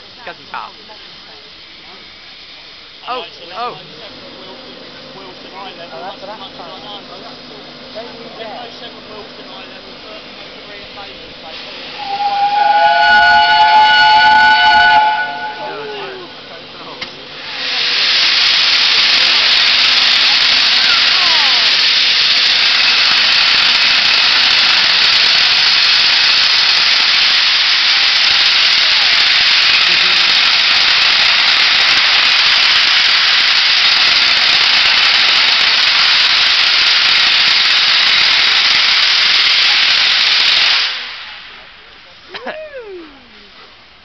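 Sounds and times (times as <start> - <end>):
steam locomotive starting: 0.0 - 42.2
loud steady steam hiss: 0.0 - 44.0.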